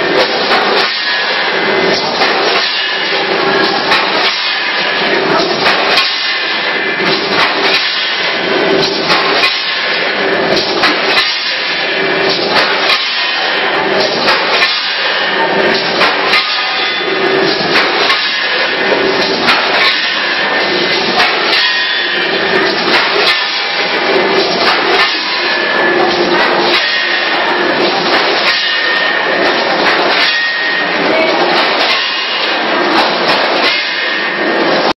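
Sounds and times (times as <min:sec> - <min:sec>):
packing machine clatter: 0:00.0 - 0:34.9.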